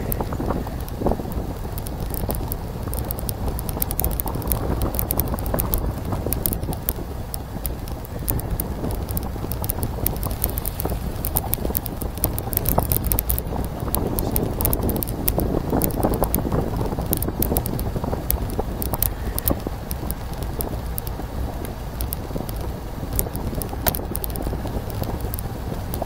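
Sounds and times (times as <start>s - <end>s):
bicycle clicks and rattles: 0.0s - 26.0s
wind rushing over microphone: 0.0s - 26.0s.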